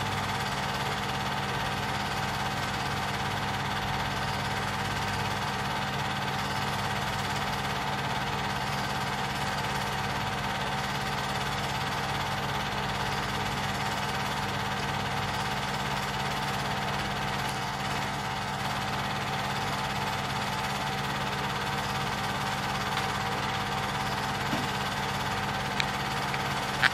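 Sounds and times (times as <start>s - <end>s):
film projector running: 0.0s - 26.9s.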